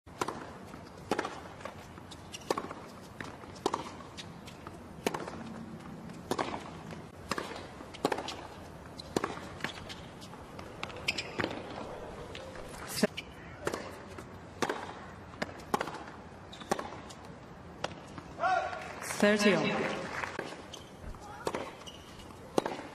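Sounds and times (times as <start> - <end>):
tennis ball bouncing: 0.1 - 18.3, 20.4 - 22.9
tennis ball hitting rackets: 0.1 - 18.3, 20.4 - 22.9
stadium background hum: 0.1 - 22.9.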